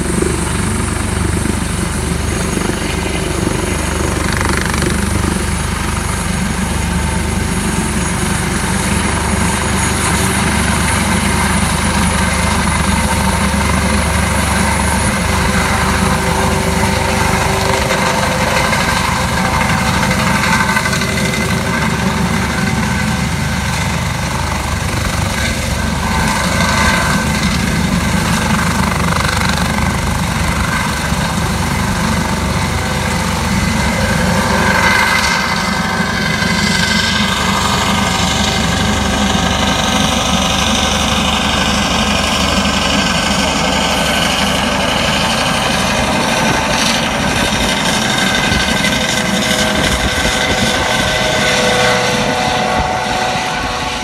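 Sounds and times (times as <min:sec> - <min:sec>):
helicopter rotor chop: 0:00.0 - 0:54.0
turbine engine whine: 0:00.0 - 0:54.0.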